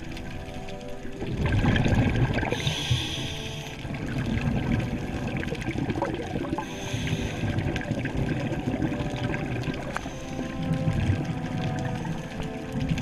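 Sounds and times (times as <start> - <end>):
underwater rumble with bubbling: 0.0 - 13.0.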